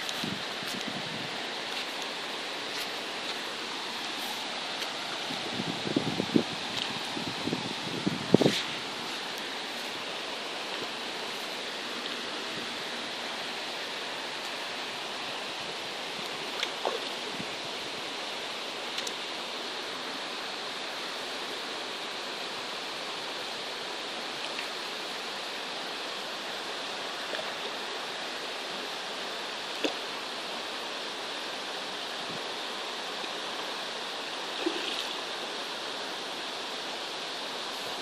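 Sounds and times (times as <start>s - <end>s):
shallow stream flowing: 0.0s - 38.0s.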